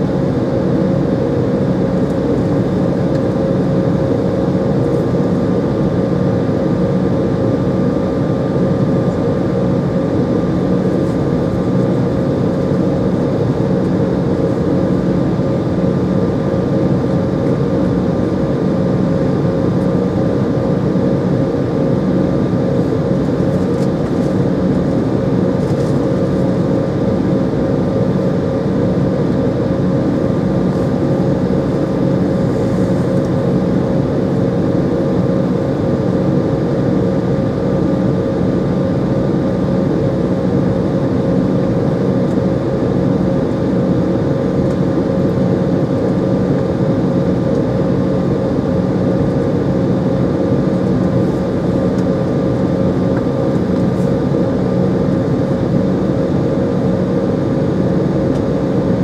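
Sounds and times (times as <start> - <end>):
airliner cabin hum: 0.0 - 59.0
thin steady whine: 0.0 - 59.0.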